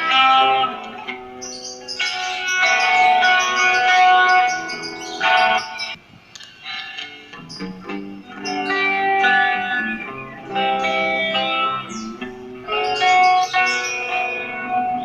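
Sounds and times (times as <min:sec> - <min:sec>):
electric guitar through small speaker: 0:00.0 - 0:15.0.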